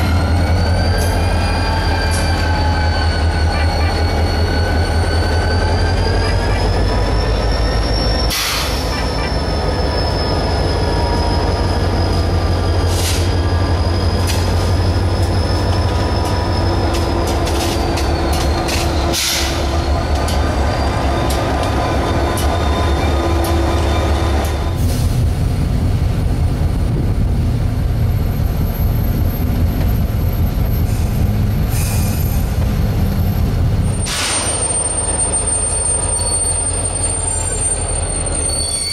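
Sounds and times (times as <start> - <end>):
train wheels squealing on rails: 0.0 - 25.2, 28.0 - 38.9
deep train rumble: 0.0 - 38.9.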